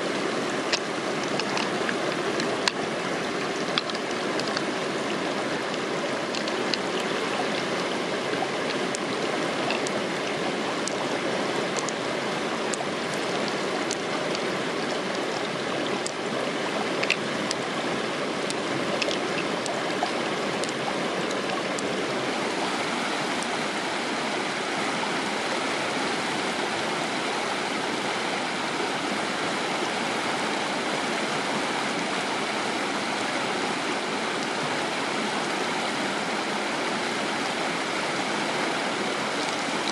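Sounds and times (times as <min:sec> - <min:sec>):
shallow stream running: 0:00.0 - 0:39.9.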